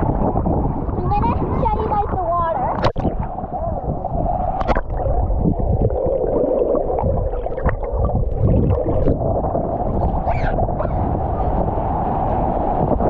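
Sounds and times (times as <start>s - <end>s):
ocean surf churning: 0.0s - 13.0s
water splashes: 0.0s - 13.0s.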